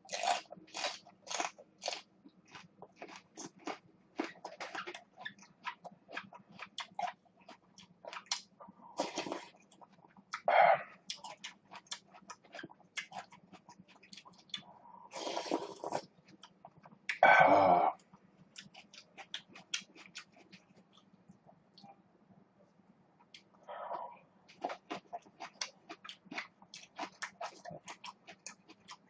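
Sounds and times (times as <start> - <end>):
crunchy chewing of chili pepper: 0.0 - 17.2, 18.0 - 21.2, 24.5 - 29.0.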